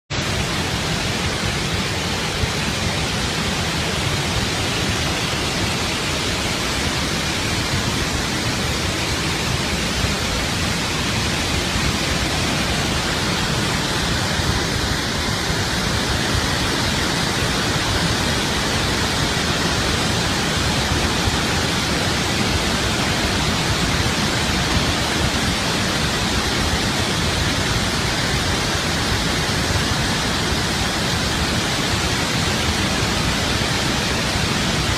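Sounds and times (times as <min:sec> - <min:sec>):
water rushing over spillway: 0:00.1 - 0:34.9.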